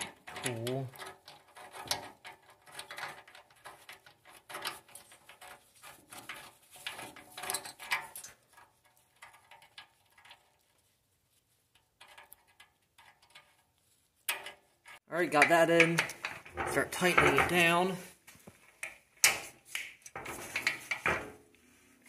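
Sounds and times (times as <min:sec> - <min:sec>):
metal nut clicking and scraping: 0:00.0 - 0:17.7, 0:18.6 - 0:21.5.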